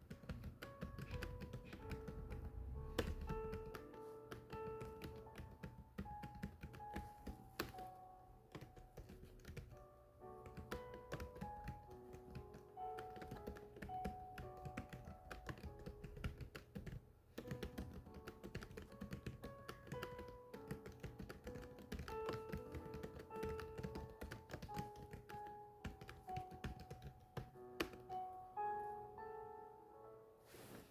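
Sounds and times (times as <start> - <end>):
keyboard typing clicks: 0.0 - 7.8, 10.4 - 28.2
soft background music: 0.0 - 30.9.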